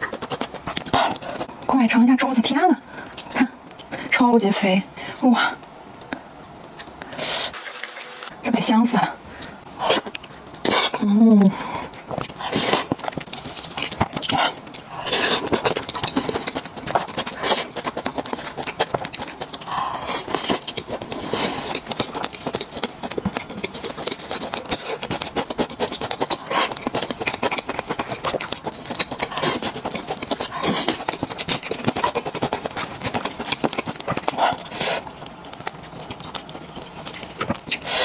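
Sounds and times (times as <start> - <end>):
chewing and lip-smacking: 0.0 - 4.2, 9.4 - 38.0.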